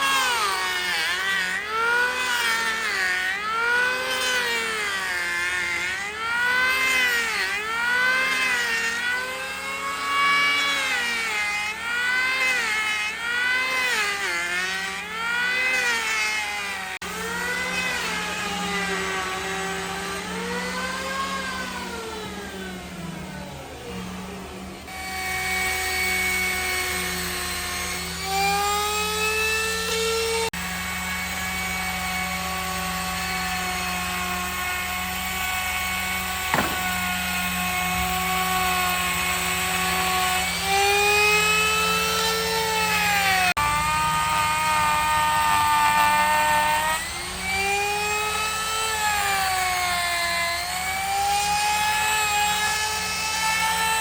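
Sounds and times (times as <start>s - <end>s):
machine motor whining: 0.0s - 54.0s.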